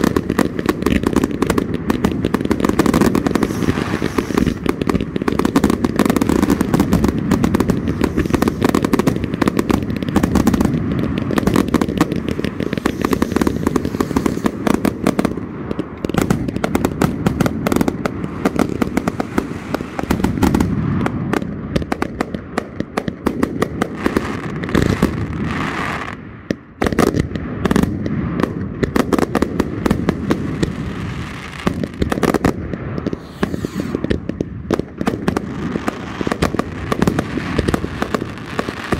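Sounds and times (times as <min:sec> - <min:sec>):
fireworks barrage: 0:00.0 - 0:38.9.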